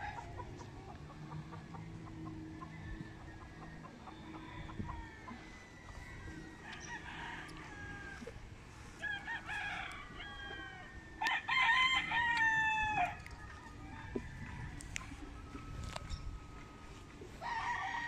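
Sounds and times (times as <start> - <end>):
roosters crowing: 0.0 - 18.0.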